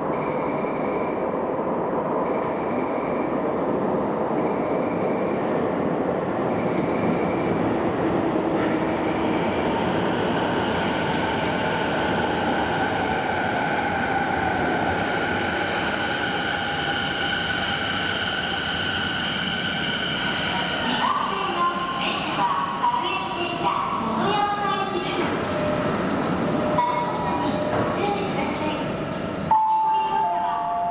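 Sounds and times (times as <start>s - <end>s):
electric train rumbling: 0.0s - 30.9s.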